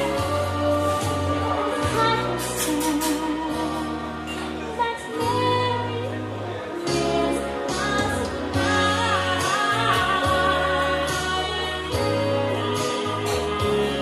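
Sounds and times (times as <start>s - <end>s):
steady bass line: 0.0s - 4.7s, 5.3s - 14.0s
backing music through speakers: 0.0s - 14.0s
woman singing into microphone: 0.0s - 14.0s.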